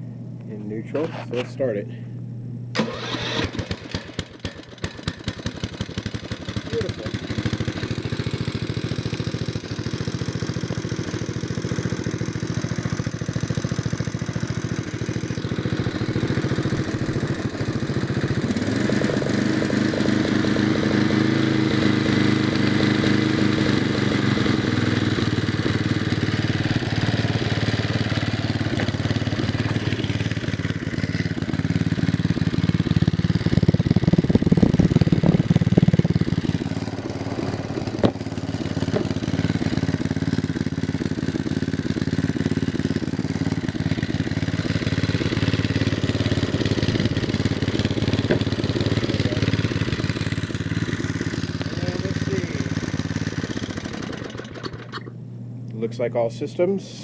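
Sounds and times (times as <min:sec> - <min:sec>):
small engine running: 0:02.7 - 0:57.0.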